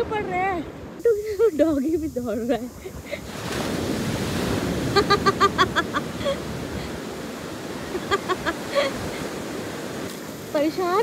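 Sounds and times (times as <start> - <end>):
surf washing onto beach: 1.0 - 11.0.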